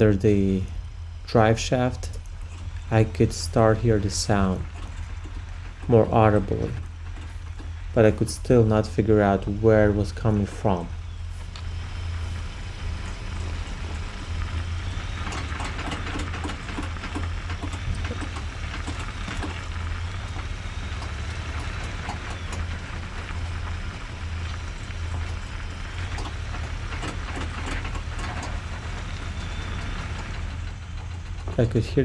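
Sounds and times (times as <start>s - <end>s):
truck low drone: 0.0s - 32.0s.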